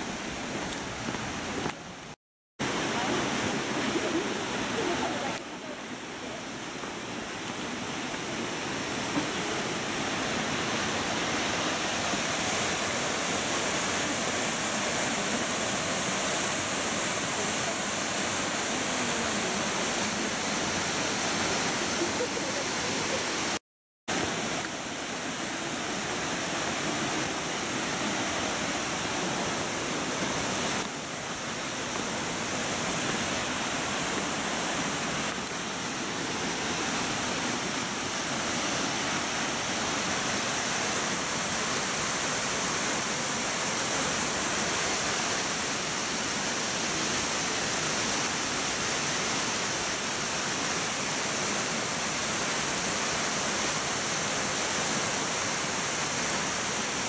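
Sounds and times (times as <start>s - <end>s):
waterfall rushing: 2.6s - 57.0s.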